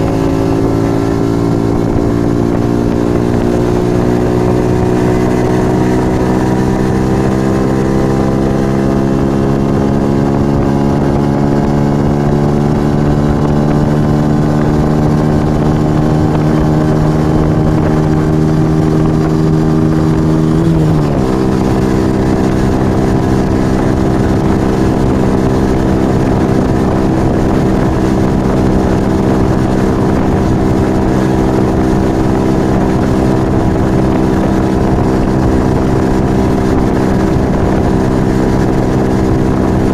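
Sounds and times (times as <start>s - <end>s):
gear change: 0.0s - 39.9s
motorcycle engine accelerating: 0.0s - 39.9s
wind rumble: 0.0s - 39.9s.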